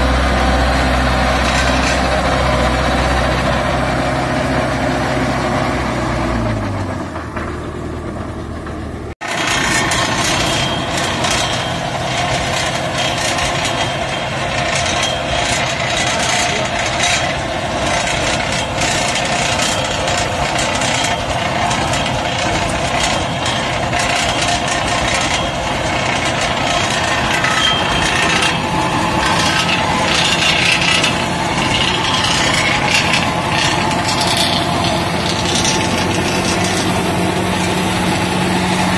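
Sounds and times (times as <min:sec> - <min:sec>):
seeder parts rattling: 0:00.0 - 0:03.5, 0:09.2 - 0:38.9
tractor engine running: 0:00.0 - 0:38.9.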